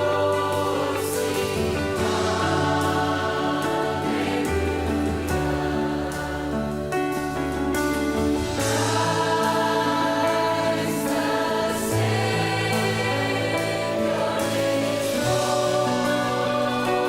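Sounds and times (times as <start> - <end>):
choir singing: 0.0 - 17.0
instrumental accompaniment: 0.0 - 17.0.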